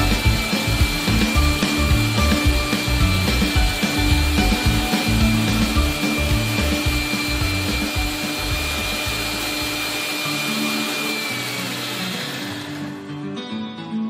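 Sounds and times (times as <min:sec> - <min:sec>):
mixer grinder whirring: 0:00.0 - 0:13.2.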